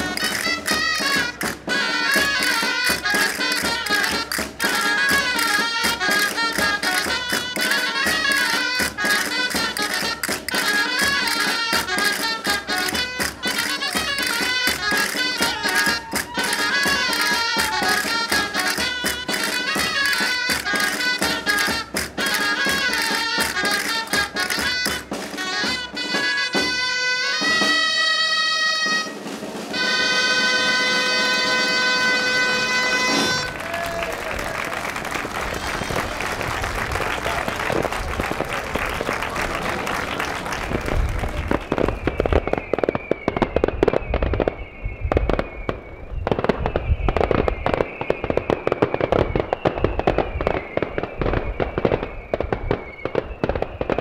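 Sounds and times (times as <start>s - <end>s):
folk dance music: 0.0s - 44.4s.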